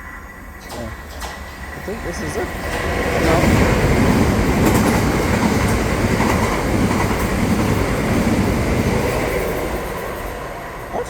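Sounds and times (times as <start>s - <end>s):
train passing on rails: 0.0s - 11.0s.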